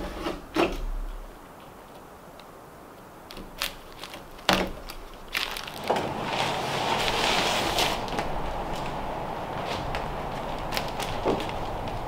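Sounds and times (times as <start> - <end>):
insulation rustling and crinkling: 0.0 - 12.0.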